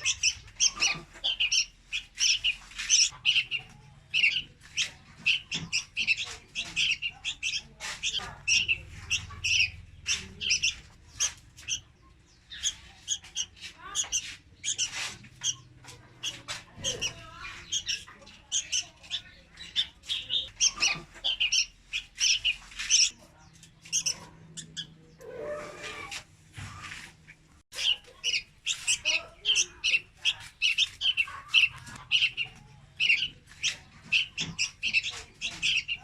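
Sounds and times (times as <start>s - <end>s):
young birds chirping: 0.0s - 36.0s.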